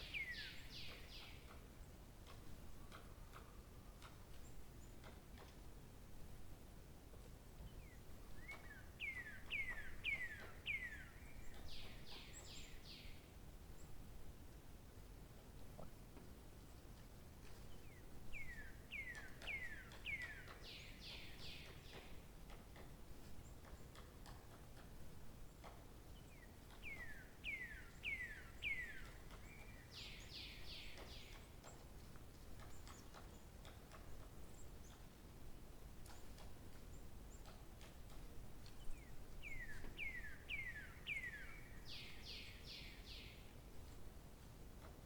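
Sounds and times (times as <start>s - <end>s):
faint outdoor background noise: 0.0s - 45.0s.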